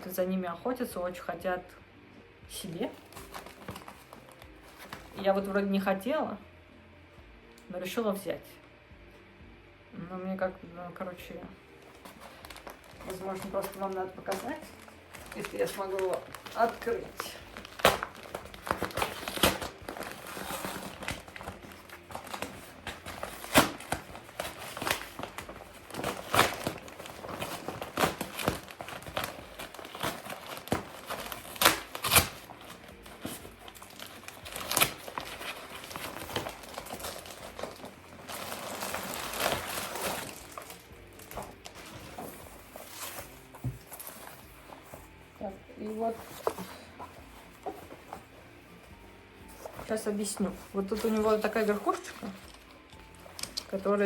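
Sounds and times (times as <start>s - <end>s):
backpack crinkling and rustling: 2.9s - 5.4s, 11.8s - 54.0s.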